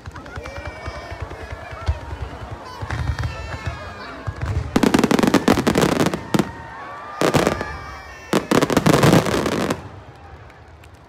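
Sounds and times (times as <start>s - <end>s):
fireworks bursts and crackling: 0.0s - 11.0s.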